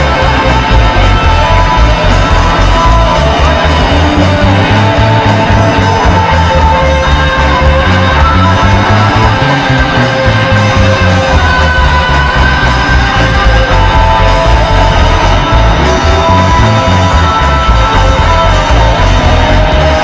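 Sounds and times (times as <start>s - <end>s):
bass guitar: 0.0s - 20.0s
electric guitar sustained lead notes: 0.0s - 20.0s
steady drum beat: 0.0s - 20.0s.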